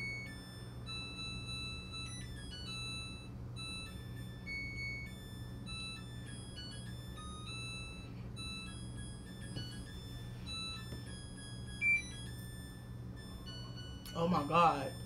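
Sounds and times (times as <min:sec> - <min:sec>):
washing machine beeping melody: 0:00.0 - 0:15.0.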